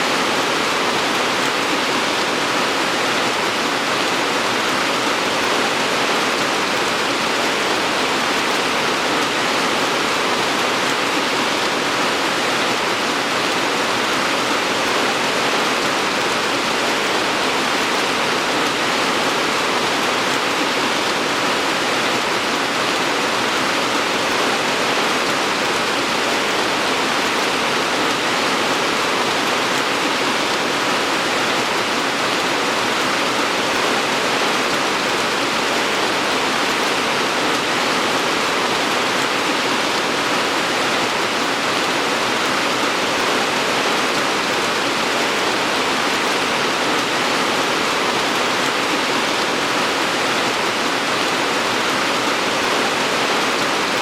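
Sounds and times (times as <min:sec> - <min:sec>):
dense rainfall hiss: 0:00.0 - 0:54.0.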